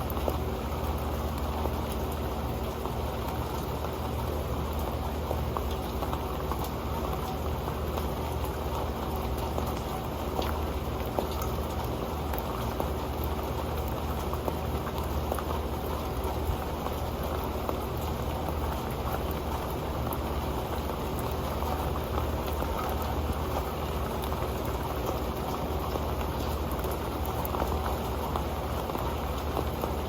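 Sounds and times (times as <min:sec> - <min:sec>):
rain drops ticking on a pan: 0:00.0 - 0:30.0.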